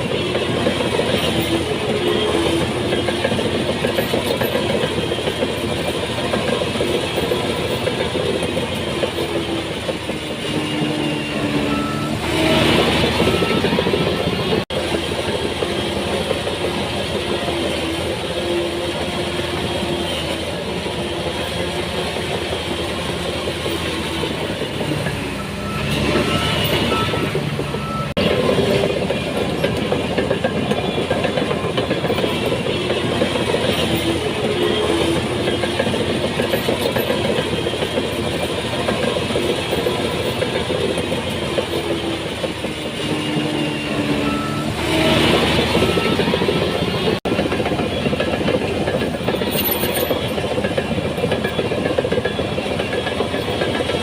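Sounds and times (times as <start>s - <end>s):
reversing alarm beeping: 0.0s - 14.6s, 22.8s - 54.0s
diesel engine under load: 0.0s - 54.0s
steel tracks clanking: 0.0s - 54.0s.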